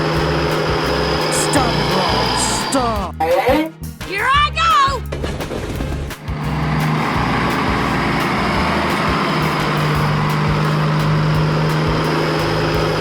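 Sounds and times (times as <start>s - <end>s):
cartoon train rumble: 0.0s - 13.0s.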